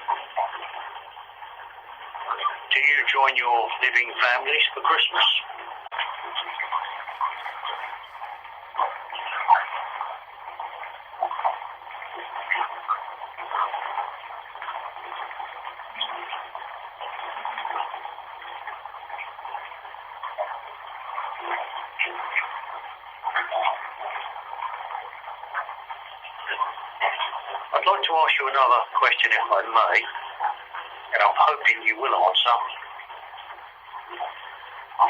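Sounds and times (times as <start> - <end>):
bathwater running: 0.1 - 35.0.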